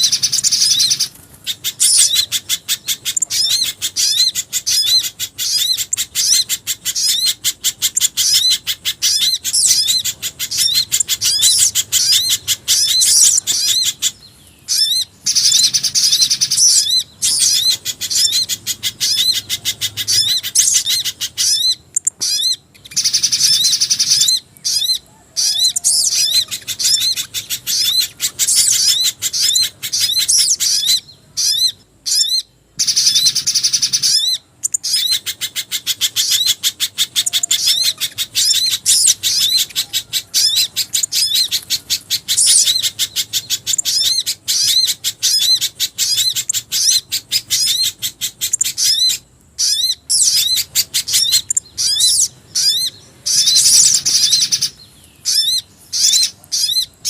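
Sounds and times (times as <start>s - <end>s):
birds rapid high chattering: 0.0s - 57.0s.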